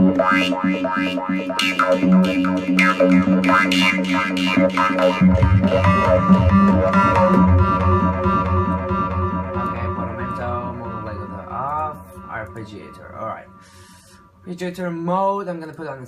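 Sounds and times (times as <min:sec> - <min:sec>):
distorted synth lead notes: 0:00.0 - 0:14.4
lower synth notes: 0:00.0 - 0:14.5.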